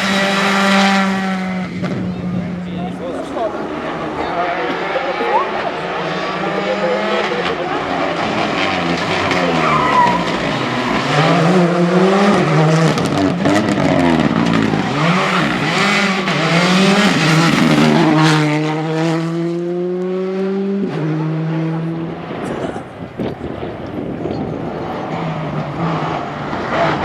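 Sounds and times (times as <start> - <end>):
rally car engine revving: 0.0 - 27.0
tyres skidding: 0.0 - 27.0.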